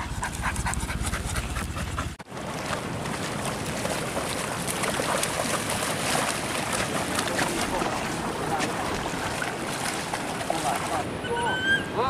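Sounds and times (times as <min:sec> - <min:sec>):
splashing through shallow water: 0:00.0 - 0:12.0
wind: 0:00.0 - 0:12.0
rushing water: 0:02.2 - 0:12.0.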